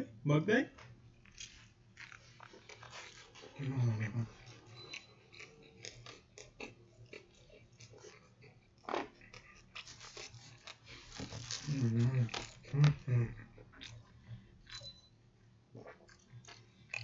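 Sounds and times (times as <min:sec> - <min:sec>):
person chewing and lip-smacking: 0:01.2 - 0:15.2, 0:15.8 - 0:17.0.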